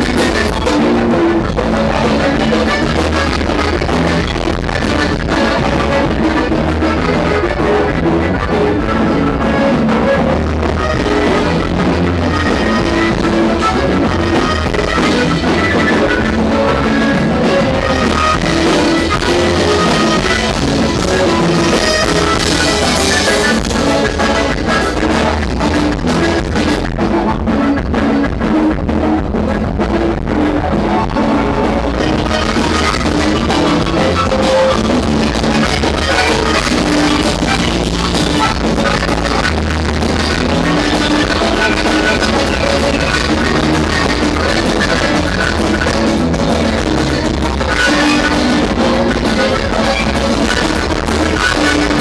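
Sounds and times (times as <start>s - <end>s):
acoustic guitar: 0.0s - 52.0s
button accordion: 0.0s - 52.0s
drum kit beat: 0.0s - 52.0s
electric bass: 0.0s - 52.0s.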